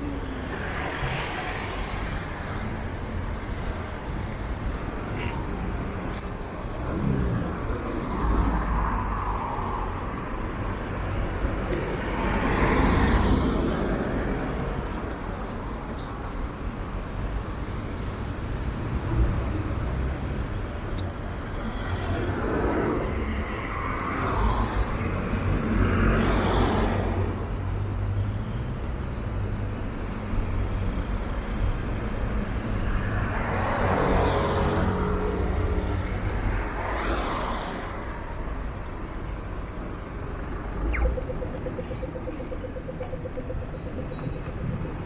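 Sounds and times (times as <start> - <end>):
low traffic rumble: 0.0 - 25.9, 29.7 - 45.0
vehicles passing by: 0.0 - 45.0.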